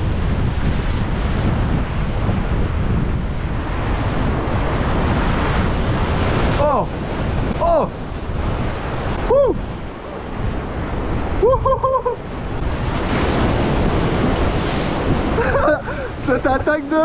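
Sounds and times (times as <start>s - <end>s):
surf breaking on rocks: 0.0s - 17.0s
wind buffeting microphone: 0.0s - 17.0s.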